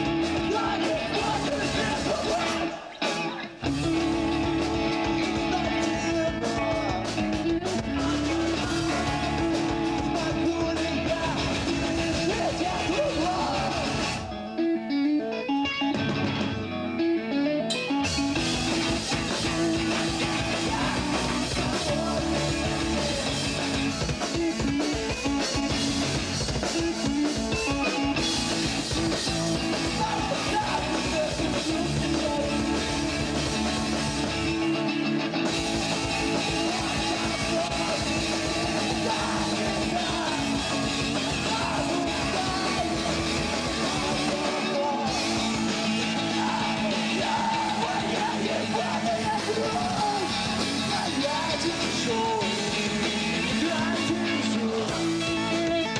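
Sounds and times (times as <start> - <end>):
person singing: 0.0 - 15.2, 18.7 - 25.8, 28.9 - 34.9, 35.6 - 55.9
distorted electric guitar: 0.0 - 55.9
live rock band playing: 0.0 - 55.9.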